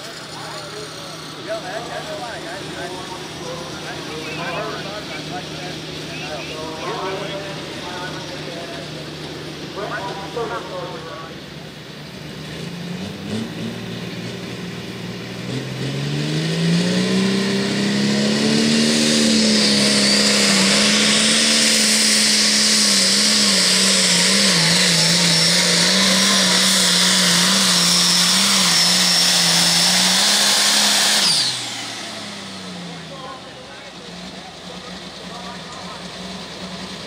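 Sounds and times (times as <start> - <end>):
diesel tractor engine at full throttle: 0.0 - 37.0.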